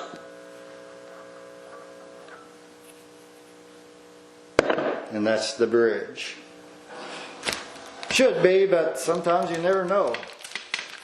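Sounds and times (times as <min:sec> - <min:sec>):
bass amp hum: 0:00.0 - 0:10.2.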